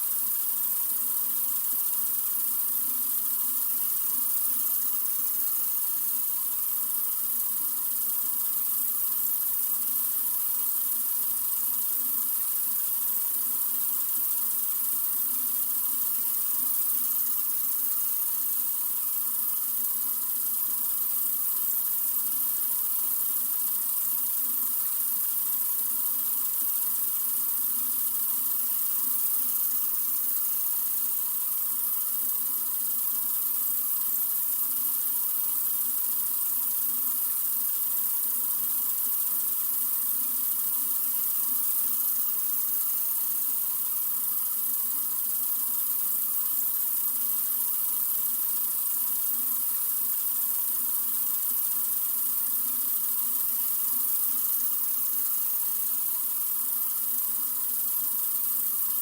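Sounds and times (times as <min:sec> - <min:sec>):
sink faucet running: 0:00.0 - 0:59.0.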